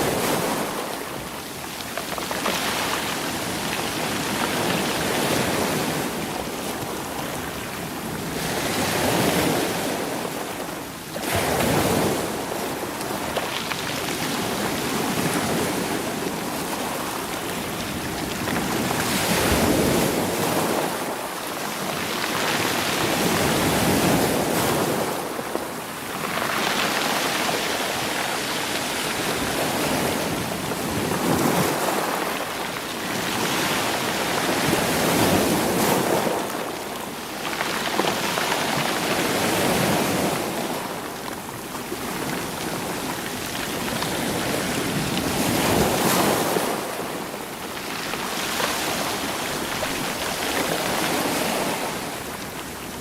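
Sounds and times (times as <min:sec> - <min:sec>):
sea waves rolling stones: 0:00.0 - 0:53.0.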